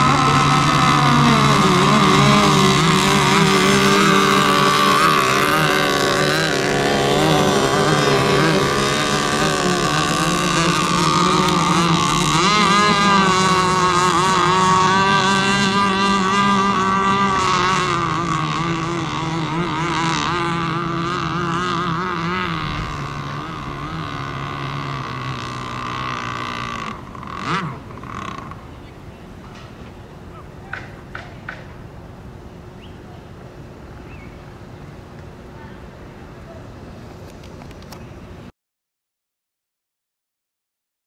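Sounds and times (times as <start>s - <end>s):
racing boat engines whining: 0.0s - 38.5s.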